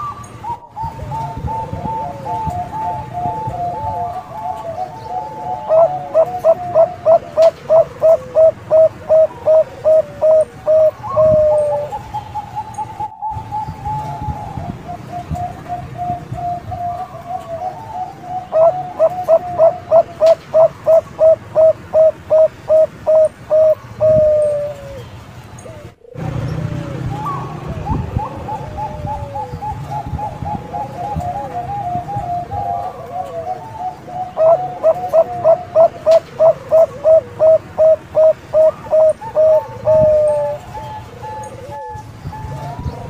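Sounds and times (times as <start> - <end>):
dove cooing: 0.0 - 43.0.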